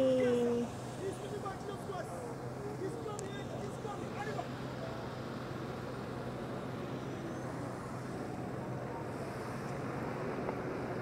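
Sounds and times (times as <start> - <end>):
bus engine hum: 0.0 - 11.0
street traffic noise: 0.0 - 11.0.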